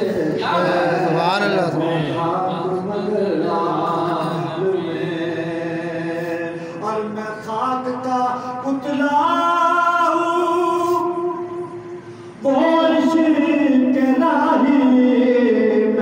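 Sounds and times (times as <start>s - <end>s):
man singing unaccompanied: 0.0s - 11.5s, 12.4s - 16.0s.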